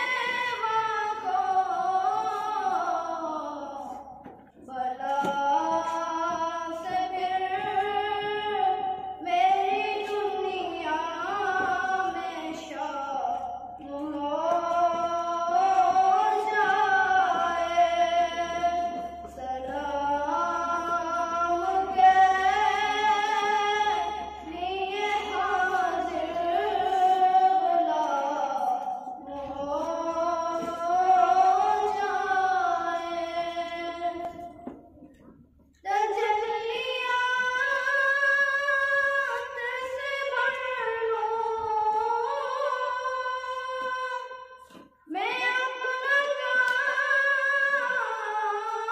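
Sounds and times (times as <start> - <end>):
boy singing into a microphone: 0.0 - 48.9.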